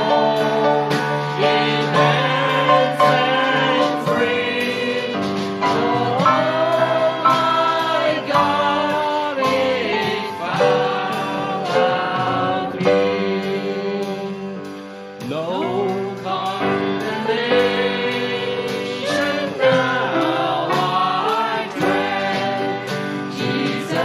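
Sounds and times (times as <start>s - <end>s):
congregation singing a hymn: 0.0s - 24.0s
instrumental accompaniment: 0.0s - 24.0s
percussion hits: 0.0s - 24.0s.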